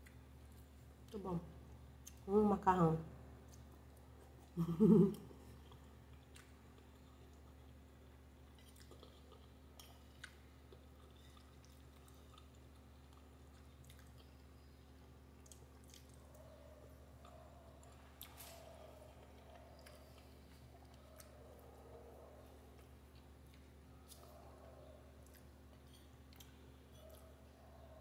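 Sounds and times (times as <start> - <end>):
person chewing food: 3.4 - 28.0.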